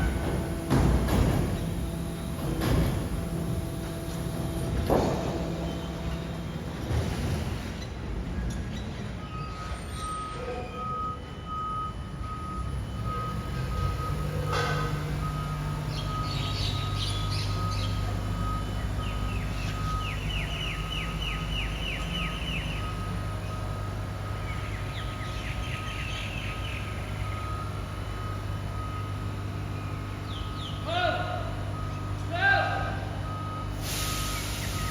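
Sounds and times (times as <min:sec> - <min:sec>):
garbage truck compactor hum: 0:00.0 - 0:32.3.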